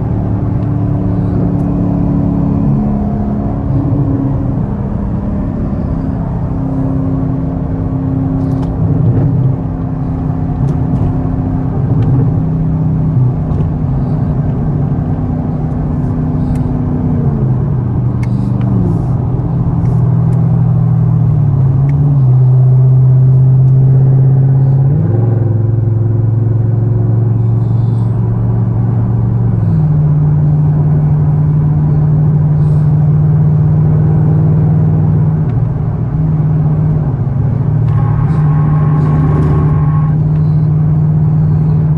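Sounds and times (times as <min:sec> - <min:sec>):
car engine droning: 0:00.0 - 0:41.9.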